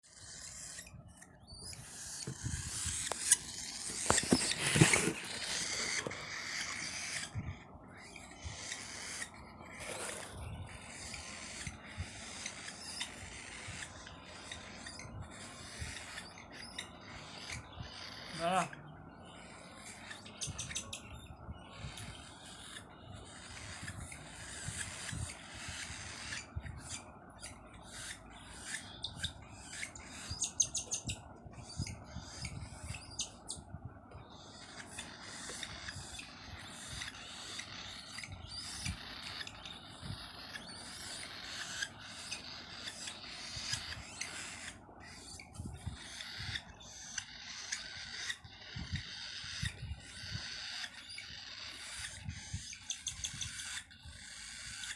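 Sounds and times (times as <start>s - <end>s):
parrots chirping and calling: 0.0s - 54.9s.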